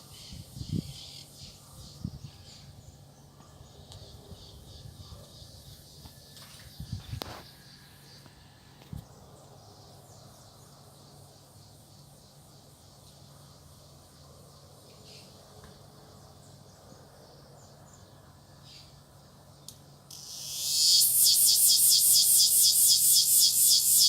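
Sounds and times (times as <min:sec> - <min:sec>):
cicadas buzzing: 0:00.0 - 0:17.8, 0:19.9 - 0:24.0.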